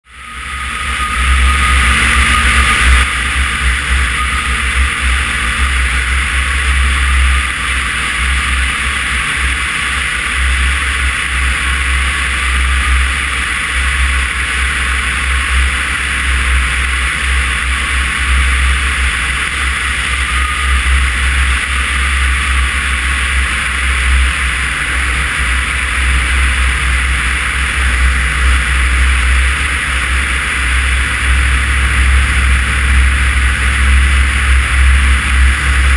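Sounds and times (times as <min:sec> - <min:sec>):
airplane engine and propeller: 0:00.0 - 0:35.9
wind rumble: 0:00.1 - 0:35.9.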